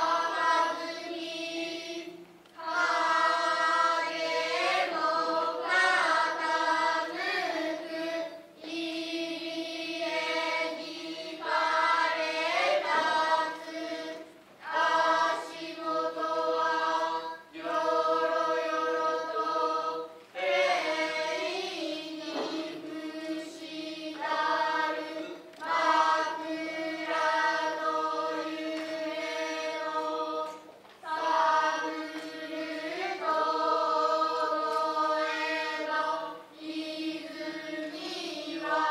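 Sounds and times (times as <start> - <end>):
children's chorus chanting: 0.0 - 38.9.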